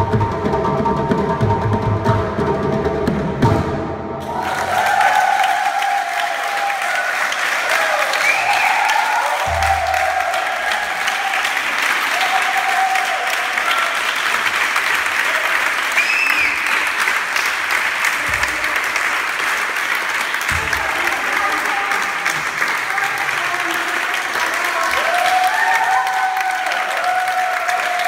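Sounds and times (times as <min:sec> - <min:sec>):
group clapping: 0:04.2 - 0:28.0.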